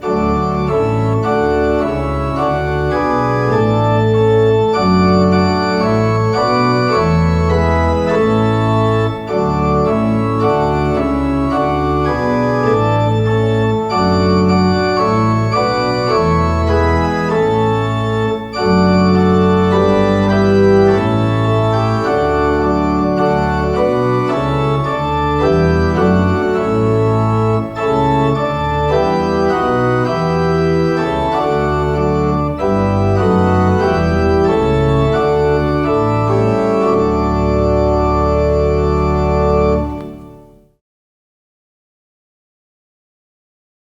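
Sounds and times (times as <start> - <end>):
organ playing a hymn: 0.0 - 40.8.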